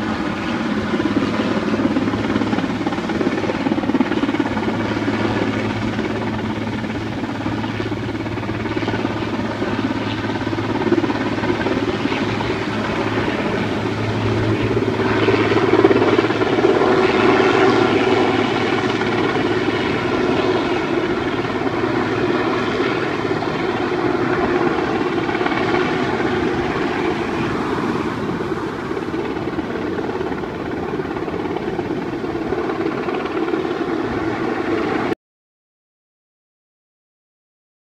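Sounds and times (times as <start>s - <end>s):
helicopter rotor and engine: 0.0s - 35.2s.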